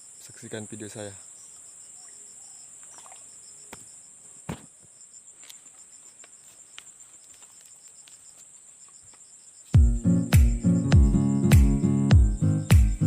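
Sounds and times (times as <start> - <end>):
pulsing insect trill: 0.0 - 4.2, 4.9 - 13.0.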